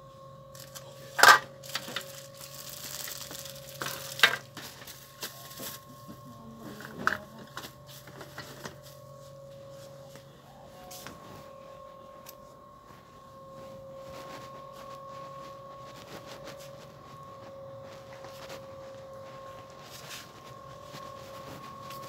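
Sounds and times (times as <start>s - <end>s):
high electrical hum: 0.0s - 22.0s
faint rustles: 1.8s - 22.0s.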